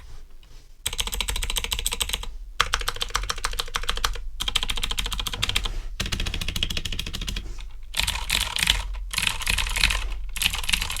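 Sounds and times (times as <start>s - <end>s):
fast typing on mechanical keyboard: 0.9s - 7.4s, 8.0s - 11.0s.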